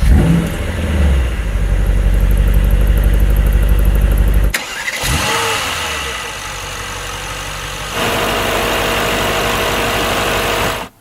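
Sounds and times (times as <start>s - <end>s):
car engine idling with burble: 0.0s - 11.0s.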